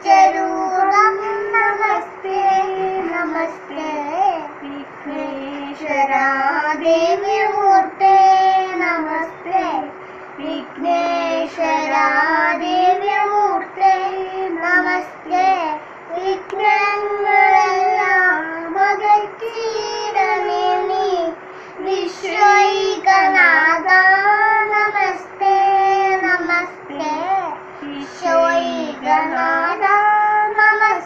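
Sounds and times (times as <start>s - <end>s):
girl chanting in sing-song melody: 0.0s - 31.0s.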